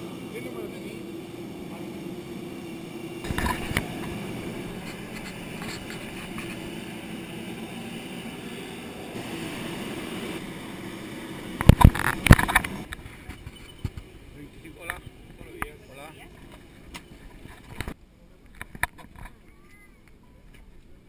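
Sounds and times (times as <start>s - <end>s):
ramp machinery humming: 0.0s - 18.0s.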